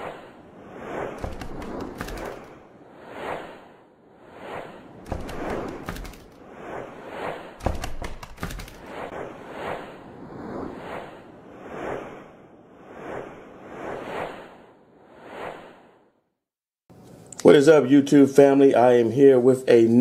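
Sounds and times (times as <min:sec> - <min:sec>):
whooshes: 0:00.0 - 0:16.3.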